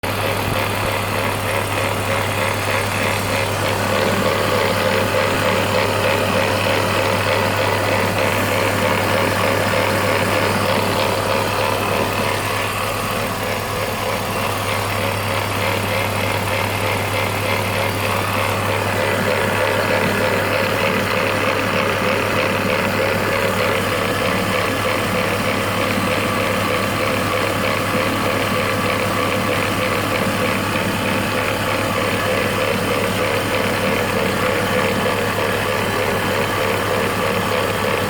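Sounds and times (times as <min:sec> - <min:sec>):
car engine idling: 0:00.0 - 0:38.0
engine grinding noise: 0:00.0 - 0:38.0.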